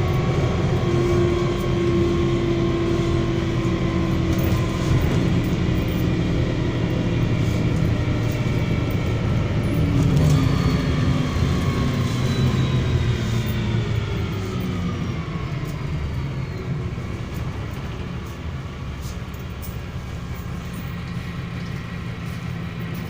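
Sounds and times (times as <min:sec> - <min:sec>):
bus engine and drivetrain whine: 0:00.0 - 0:23.0.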